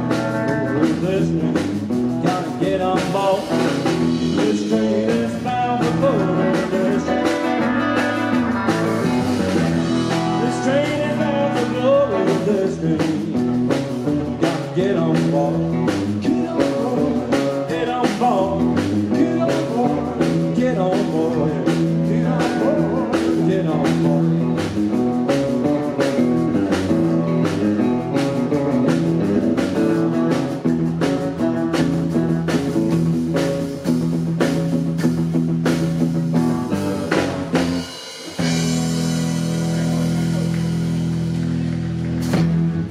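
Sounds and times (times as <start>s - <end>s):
drum kit beat: 0.0s - 42.9s
electric guitar: 0.0s - 42.9s
upright double bass: 0.0s - 42.9s.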